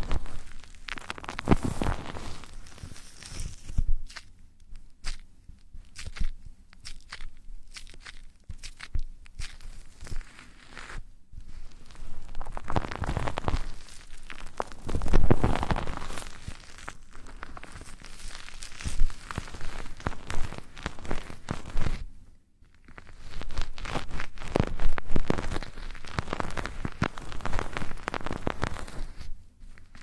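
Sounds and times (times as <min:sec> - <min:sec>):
rustling and scratching on microphone: 0:00.0 - 0:30.0.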